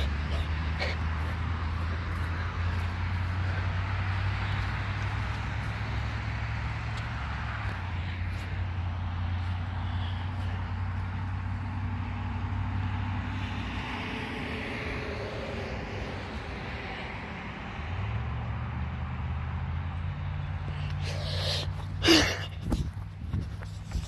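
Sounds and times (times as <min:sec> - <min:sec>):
road noise: 0:00.0 - 0:24.0
vehicle engine hum: 0:00.0 - 0:24.0.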